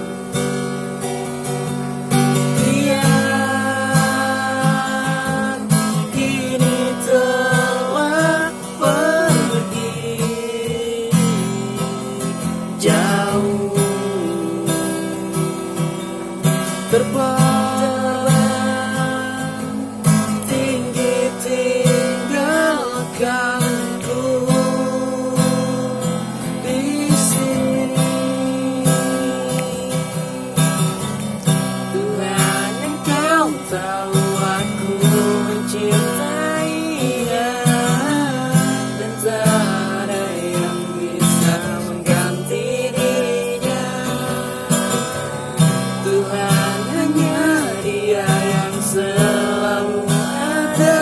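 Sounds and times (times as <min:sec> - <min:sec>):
acoustic guitar strummed and plucked: 0:00.0 - 0:51.0
person singing a ballad: 0:00.0 - 0:51.0.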